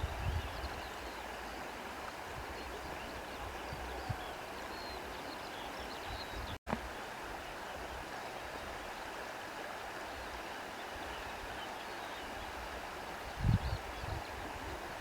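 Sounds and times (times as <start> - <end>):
rushing nature ambience: 0.0 - 15.0.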